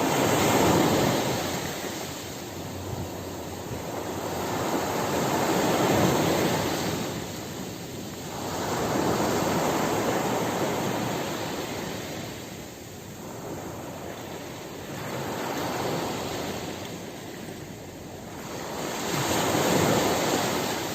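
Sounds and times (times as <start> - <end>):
sea waves breaking on shore: 0.0 - 20.9.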